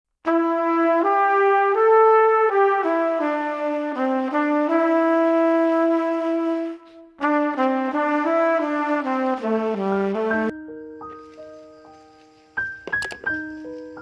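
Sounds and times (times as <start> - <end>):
brass instrument melody: 0.2 - 11.7.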